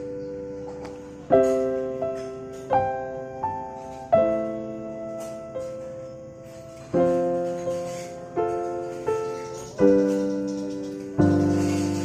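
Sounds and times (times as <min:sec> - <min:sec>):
slow gentle piano chords: 0:00.0 - 0:12.0.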